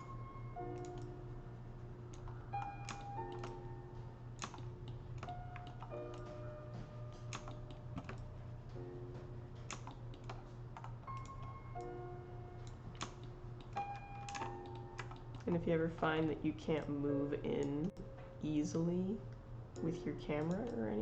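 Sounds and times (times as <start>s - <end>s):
keyboard keys clicking: 0.0s - 1.2s, 2.1s - 16.9s, 19.3s - 21.0s
low steady hum: 0.0s - 21.0s
soft background music: 0.0s - 21.0s.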